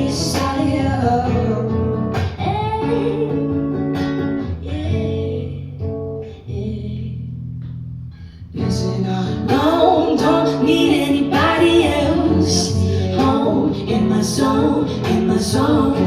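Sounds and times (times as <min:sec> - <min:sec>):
person singing: 0:00.0 - 0:03.7, 0:04.5 - 0:07.2, 0:08.6 - 0:16.0
acoustic guitar chords: 0:00.0 - 0:16.0.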